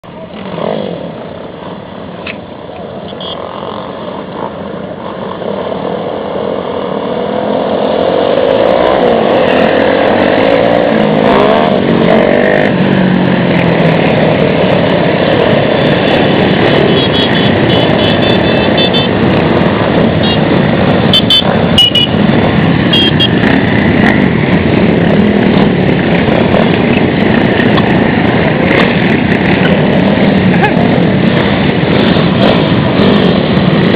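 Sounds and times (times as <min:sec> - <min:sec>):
minibike engines revving: 0:03.0 - 0:33.9.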